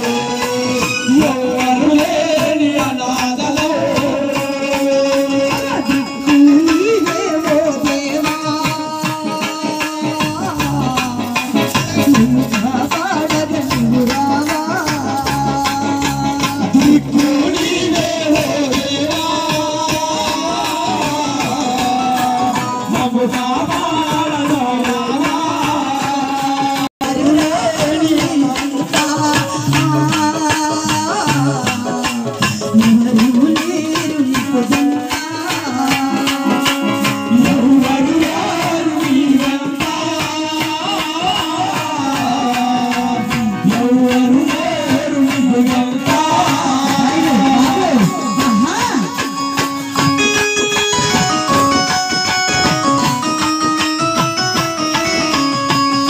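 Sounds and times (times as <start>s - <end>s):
men singing devotional melody: 0.0s - 56.0s.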